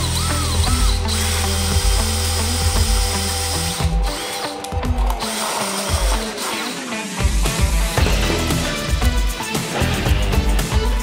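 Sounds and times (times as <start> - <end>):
drill cutting sheet metal: 0.0 - 11.0
rock music: 0.0 - 11.0.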